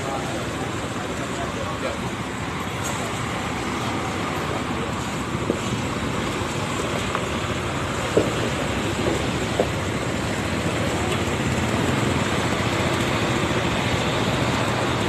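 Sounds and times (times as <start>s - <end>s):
coach engine running: 0.0s - 15.0s.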